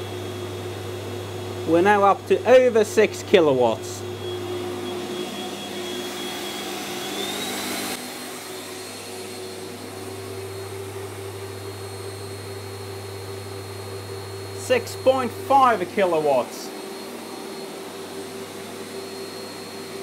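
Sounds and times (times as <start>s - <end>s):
vacuum cleaner whining: 0.0s - 20.0s.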